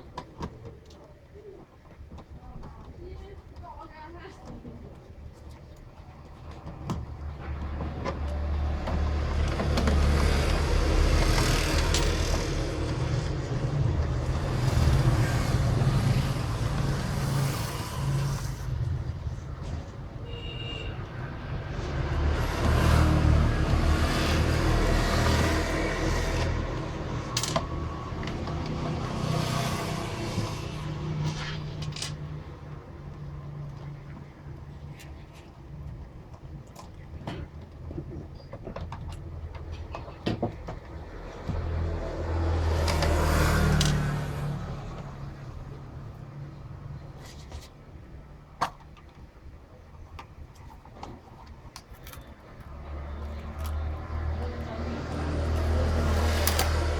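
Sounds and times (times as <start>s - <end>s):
passing road traffic rumble: 7.0s - 34.8s, 38.9s - 56.9s.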